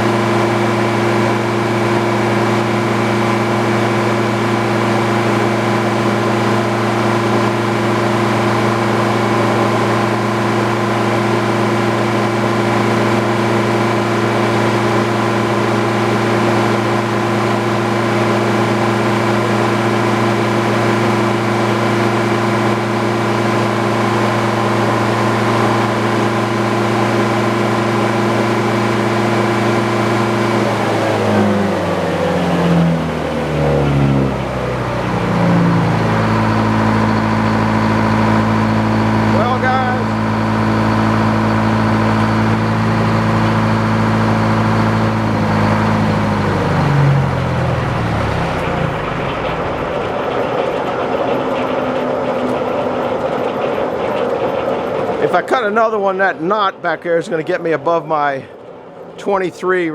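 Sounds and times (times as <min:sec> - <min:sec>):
sawmill blade spinning: 0:00.0 - 0:59.9.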